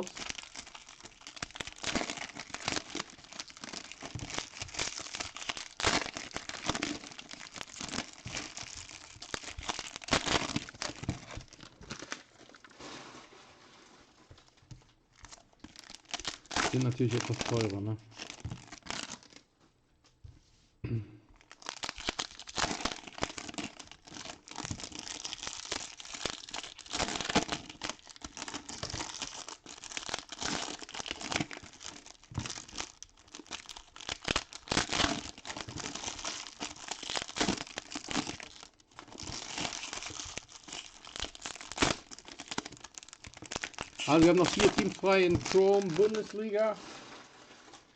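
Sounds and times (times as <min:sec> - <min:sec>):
plastic wrappers crinkling and tearing: 0:00.0 - 0:19.5, 0:21.4 - 0:47.9.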